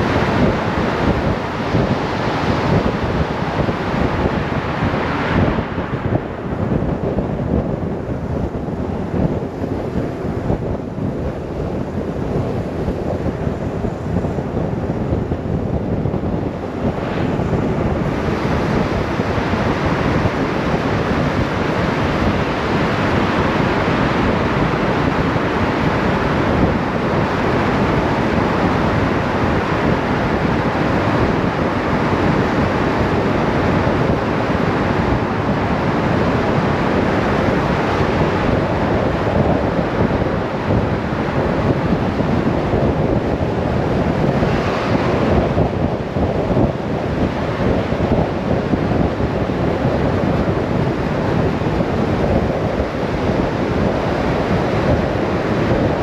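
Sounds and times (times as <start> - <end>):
motorcycle road noise: 0.0 - 49.0
wind rushing over microphone: 0.0 - 56.0.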